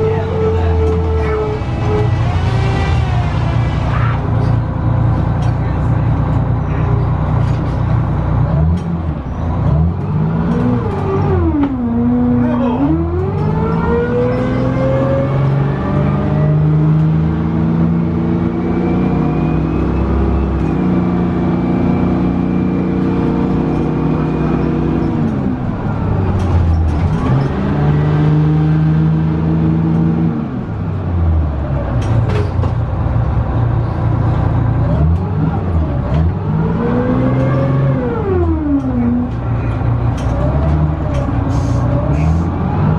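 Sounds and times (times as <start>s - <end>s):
bus diesel engine pulling: 0.0s - 42.9s.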